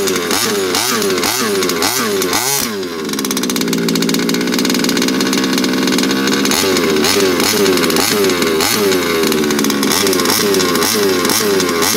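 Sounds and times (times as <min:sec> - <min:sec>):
small two-stroke engine revving: 0:00.0 - 0:11.9.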